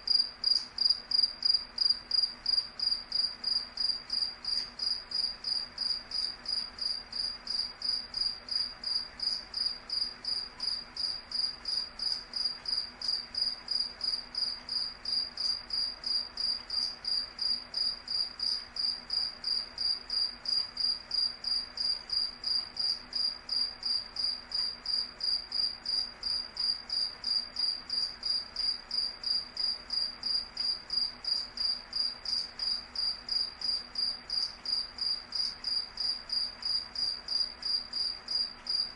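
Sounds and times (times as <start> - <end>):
cricket chirping: 0.1 - 38.9.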